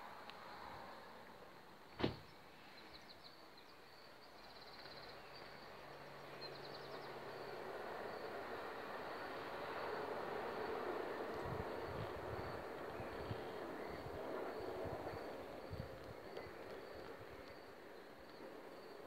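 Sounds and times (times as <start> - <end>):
faint outdoor background noise: 0.0 - 19.0.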